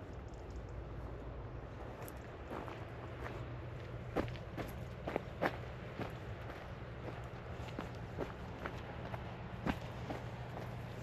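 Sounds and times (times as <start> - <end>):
low background rumble: 0.0 - 11.0
footsteps walking: 1.8 - 11.0.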